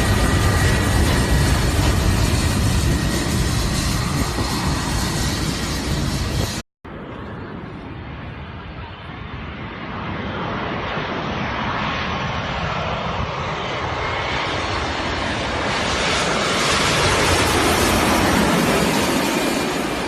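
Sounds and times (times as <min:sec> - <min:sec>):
airplane engines: 0:00.0 - 0:20.0.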